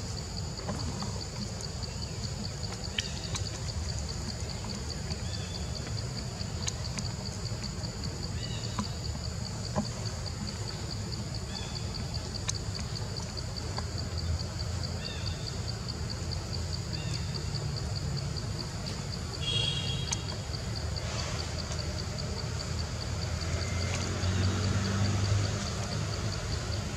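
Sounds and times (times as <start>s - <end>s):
insect chirping in a pulse: 0.0s - 26.9s.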